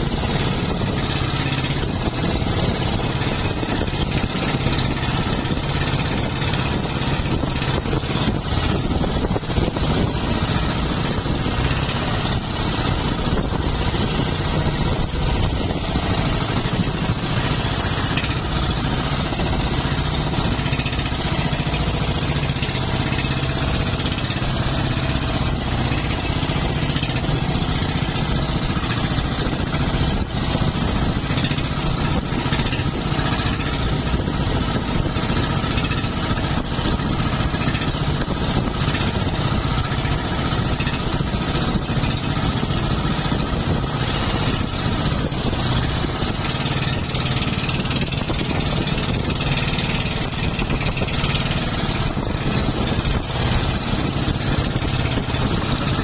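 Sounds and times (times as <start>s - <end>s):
boat engine running: 0.0s - 56.0s
choppy sea: 0.0s - 56.0s
wind: 0.0s - 56.0s.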